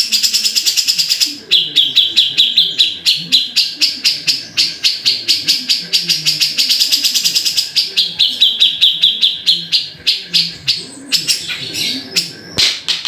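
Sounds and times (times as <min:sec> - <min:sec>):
bird calling in sharp notes: 0:00.0 - 0:13.0.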